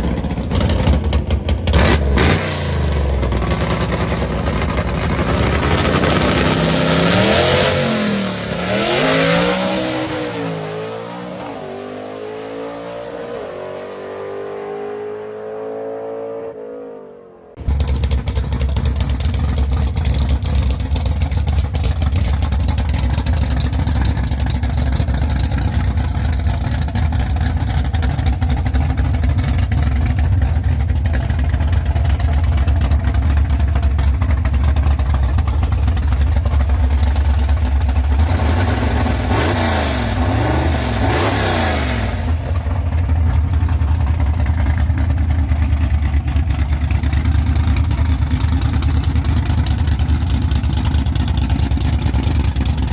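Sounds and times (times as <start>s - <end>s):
loud deep hot rod engine: 0.0s - 52.9s.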